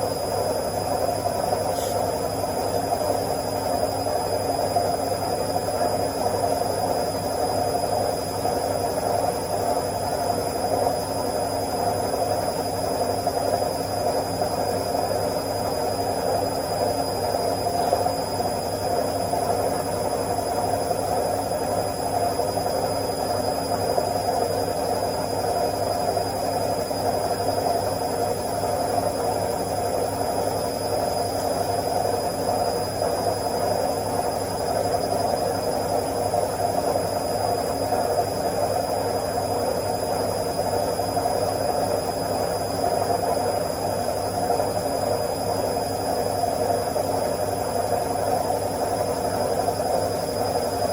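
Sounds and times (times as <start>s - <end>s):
washing machine spinning: 0.0s - 50.9s.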